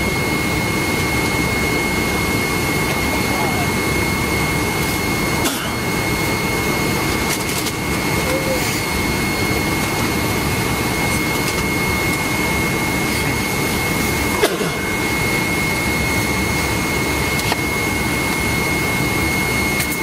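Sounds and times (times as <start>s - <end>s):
jet engine and airflow rush: 0.0s - 20.0s
thin steady whine: 0.0s - 20.0s.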